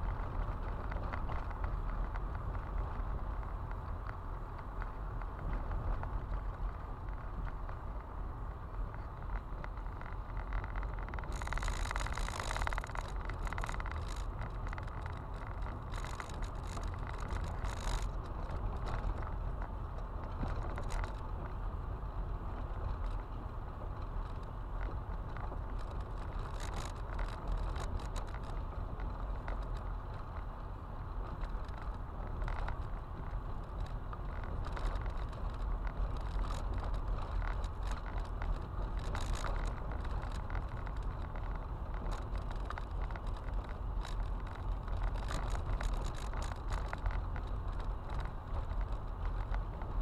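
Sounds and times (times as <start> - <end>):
stones crackling and ticking: 0.0 - 21.8, 22.5 - 50.0.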